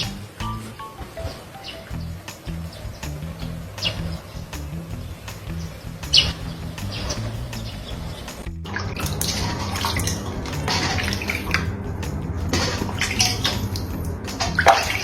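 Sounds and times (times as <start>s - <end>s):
water splashing: 1.1s - 15.0s.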